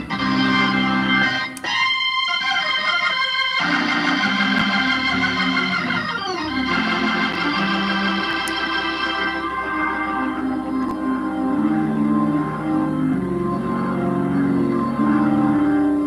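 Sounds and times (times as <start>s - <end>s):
organ playing full chords: 0.0s - 16.0s.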